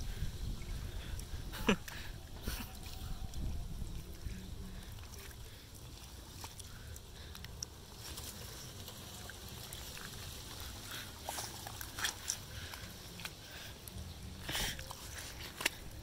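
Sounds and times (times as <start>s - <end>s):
fingers squelching wet mud: 1.0s - 16.0s.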